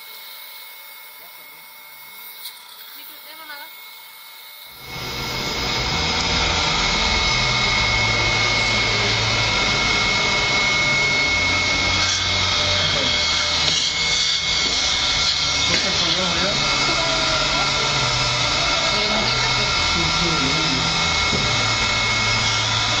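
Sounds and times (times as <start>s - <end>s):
dental suction hiss and whine: 0.0s - 23.0s.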